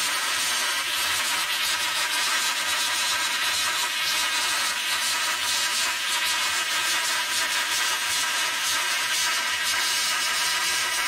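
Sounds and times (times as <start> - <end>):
plasma cutter hissing: 0.0 - 11.0.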